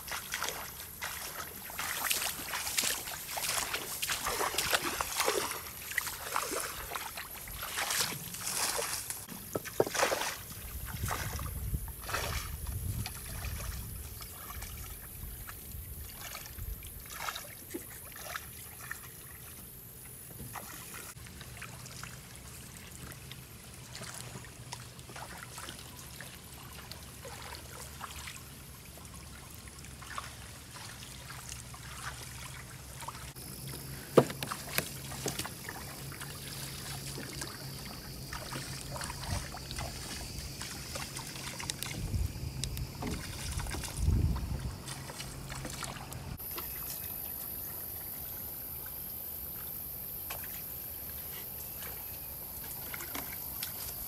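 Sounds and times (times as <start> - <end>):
stream water splashing: 0.0 - 54.0.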